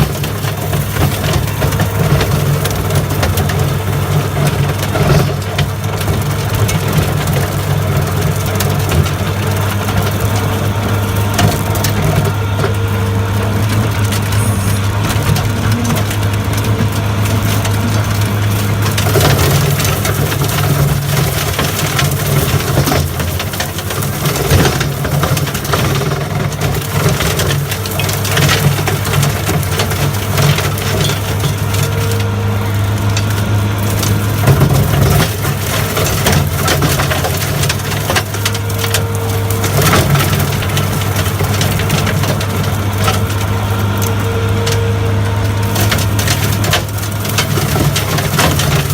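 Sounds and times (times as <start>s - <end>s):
skid steer engine running: 0.0s - 48.9s
wood cracking and splintering: 0.0s - 48.9s.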